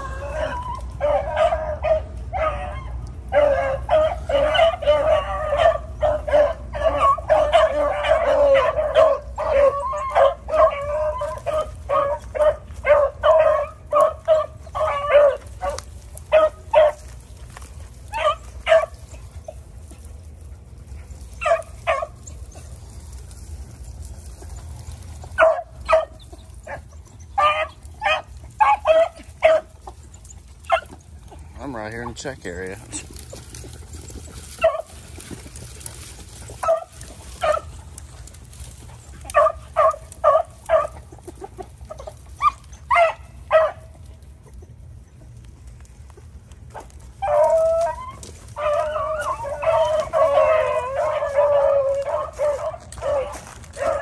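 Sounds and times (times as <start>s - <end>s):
hounds baying: 0.0s - 54.0s.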